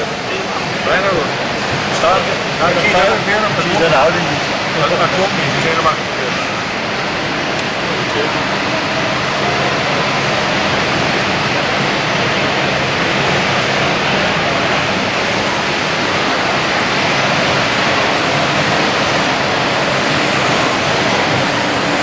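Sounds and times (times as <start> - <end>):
exhibition hall rushing noise: 0.0 - 22.0.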